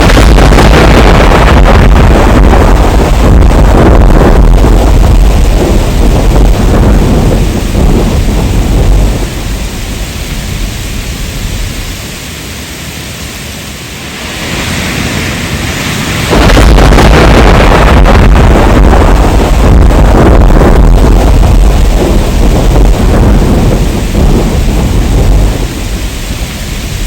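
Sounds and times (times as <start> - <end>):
deep thunder rumbling: 0.0 - 12.3, 14.0 - 27.0
heavy rain: 0.0 - 27.0.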